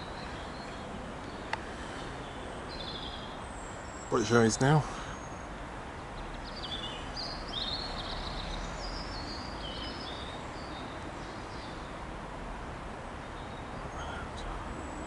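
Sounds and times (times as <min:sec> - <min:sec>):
small birds chirping: 0:00.0 - 0:12.2, 0:13.2 - 0:15.0.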